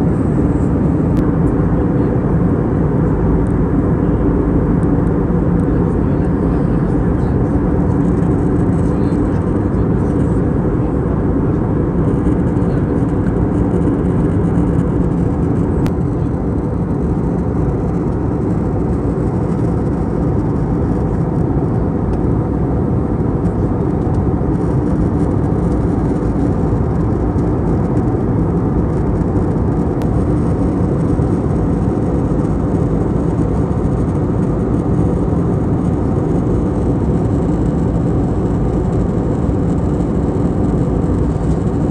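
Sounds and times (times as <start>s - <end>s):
aircraft cabin airflow and engine: 0.0s - 41.9s.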